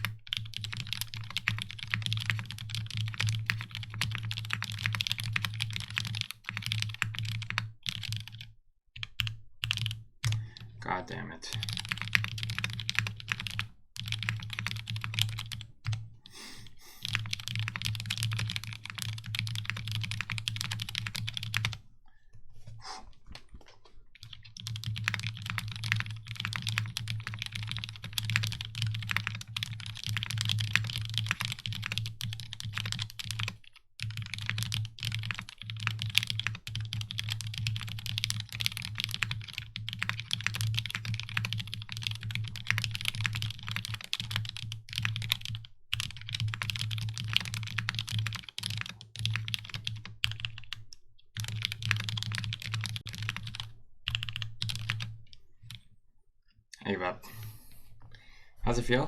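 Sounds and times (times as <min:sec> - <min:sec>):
fast typing on mechanical keyboard: 0:00.0 - 0:10.8, 0:11.5 - 0:16.1, 0:17.0 - 0:21.8, 0:24.1 - 0:55.8.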